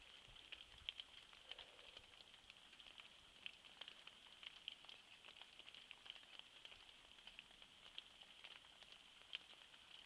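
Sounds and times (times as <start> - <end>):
light raindrops pattering: 0.0 - 10.0
soft high hiss: 0.0 - 10.0.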